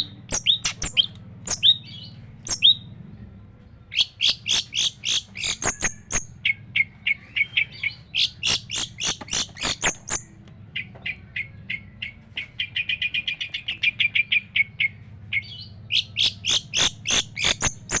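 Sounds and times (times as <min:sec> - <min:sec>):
bird singing harsh scratchy song: 0:00.0 - 0:03.0, 0:03.8 - 0:18.0.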